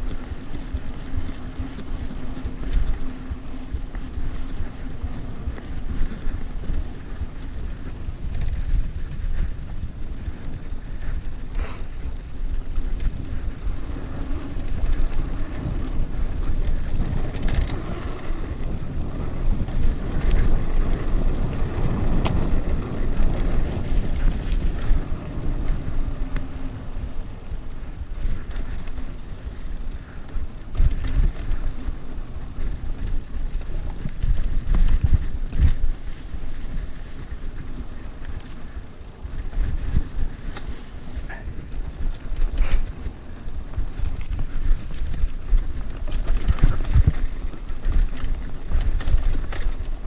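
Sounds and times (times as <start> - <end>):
tyres rumbling on dirt: 0.0 - 50.0
wind buffeting microphone: 0.0 - 50.0.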